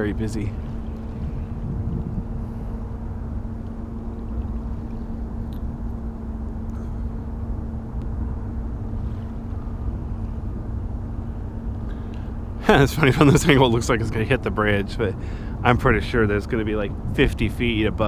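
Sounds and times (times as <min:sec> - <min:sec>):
ship engines droning: 0:00.0 - 0:18.0.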